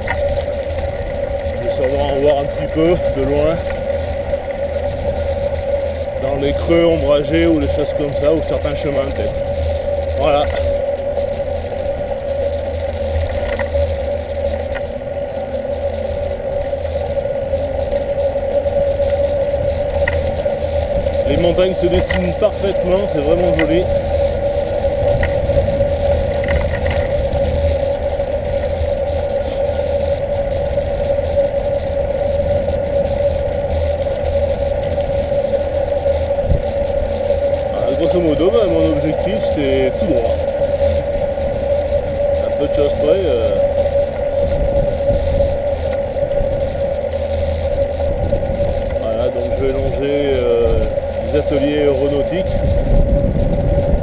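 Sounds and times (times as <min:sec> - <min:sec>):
bike tyres on pavement: 0:00.0 - 0:54.0
small rattling clicks: 0:00.0 - 0:54.0
wind rumble on microphone: 0:00.0 - 0:54.0.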